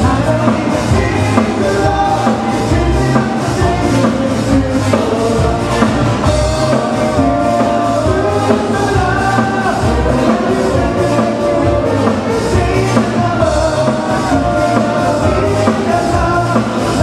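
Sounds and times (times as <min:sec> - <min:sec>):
bass: 0:00.0 - 0:17.0
drum kit beat: 0:00.0 - 0:17.0
live band playing: 0:00.0 - 0:17.0.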